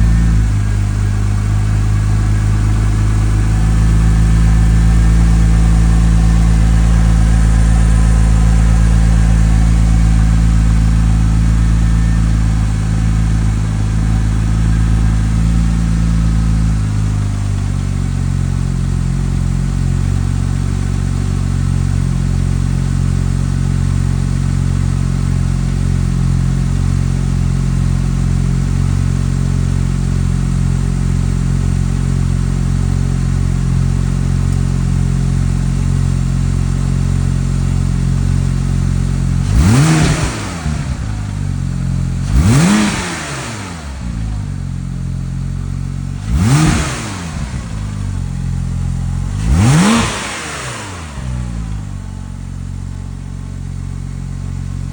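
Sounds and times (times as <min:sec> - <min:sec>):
car engine idling: 0:00.0 - 0:54.9.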